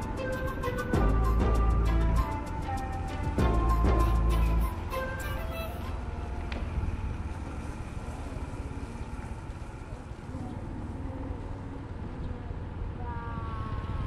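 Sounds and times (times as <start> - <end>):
air buffeting: 0.0 - 14.0
tyres on road: 0.0 - 14.0
vehicle engine rumble: 0.0 - 14.0.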